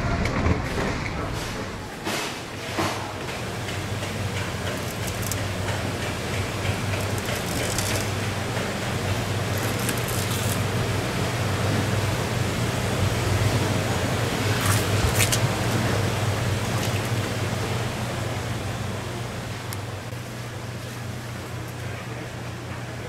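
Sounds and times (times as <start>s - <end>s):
machinery hiss and hum: 0.0s - 23.0s.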